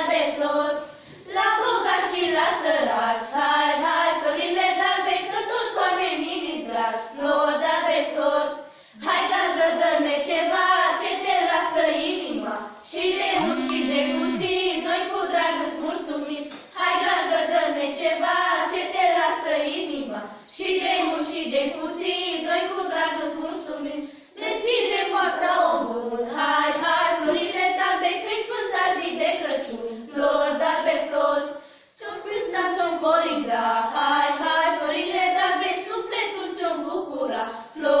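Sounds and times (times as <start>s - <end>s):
girls singing unaccompanied: 0.0s - 16.2s, 16.8s - 38.0s.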